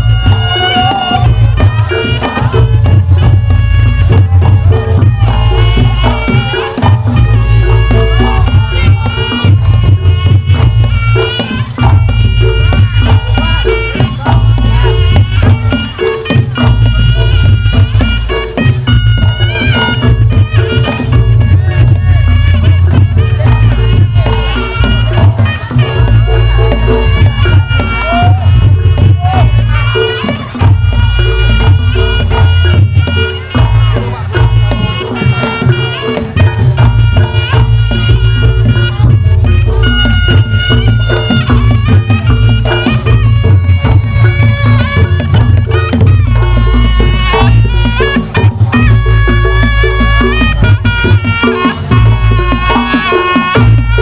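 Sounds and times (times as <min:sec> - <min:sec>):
drums: 0:00.0 - 0:54.0
reed trumpet melody: 0:00.0 - 0:54.0.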